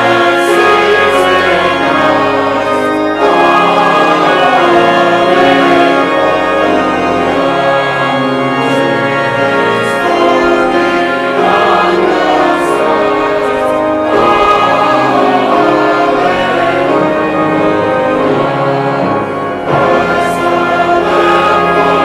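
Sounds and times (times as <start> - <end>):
choir singing in harmony: 0.0 - 22.0
piano accompaniment: 0.0 - 22.0.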